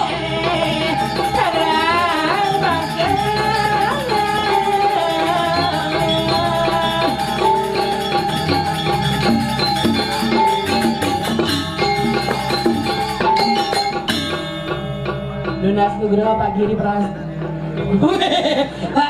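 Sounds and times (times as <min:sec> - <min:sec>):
gamelan percussion rattling: 0:00.0 - 0:19.0
gamelan sliding melody: 0:00.0 - 0:19.0.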